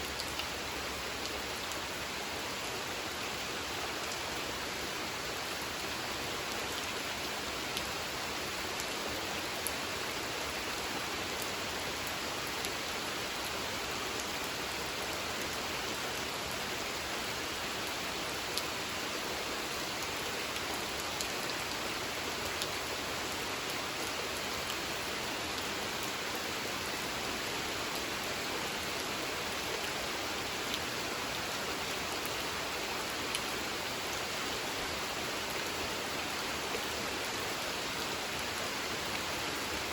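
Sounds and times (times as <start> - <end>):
rain falling on pond water: 0.0 - 39.9.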